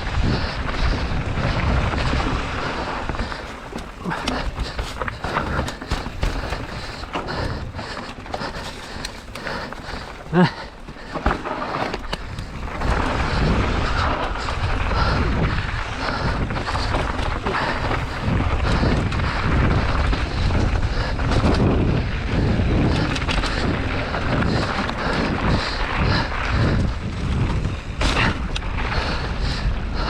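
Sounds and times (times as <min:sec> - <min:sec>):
bike tyres and frame rattling: 0:00.0 - 0:30.0
wind buffeting microphone: 0:00.0 - 0:30.0.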